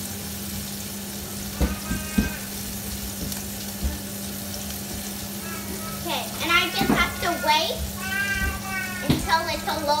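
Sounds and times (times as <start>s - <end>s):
bacon sizzling in a frying pan: 0.0s - 10.0s.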